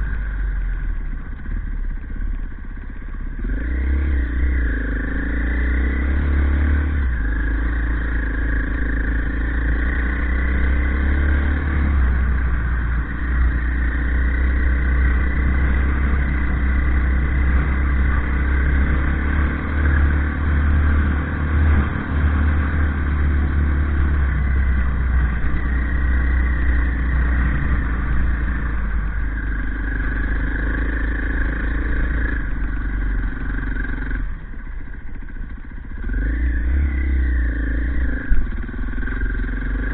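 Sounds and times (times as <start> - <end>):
off-road vehicle engine revving: 3.4 - 34.6, 35.6 - 39.9.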